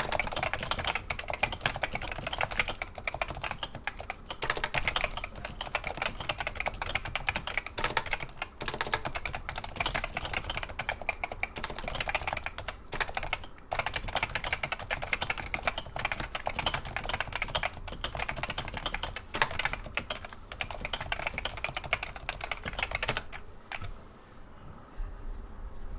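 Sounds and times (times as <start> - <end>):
fast keyboard typing: 0.0 - 23.9.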